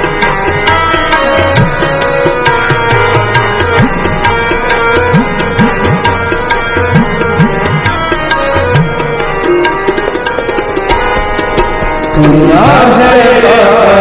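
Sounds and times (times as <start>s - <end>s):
tabla playing: 0.0s - 14.0s.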